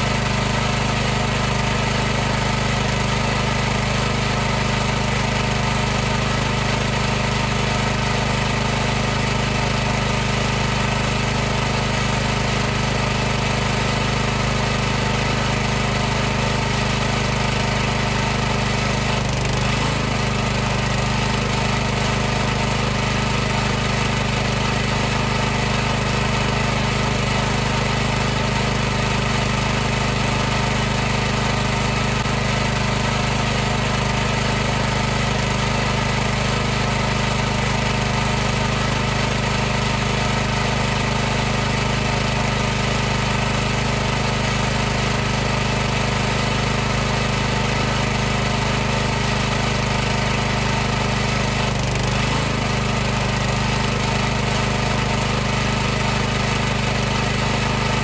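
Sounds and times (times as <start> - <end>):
pressure washer running: 0.0 - 58.0.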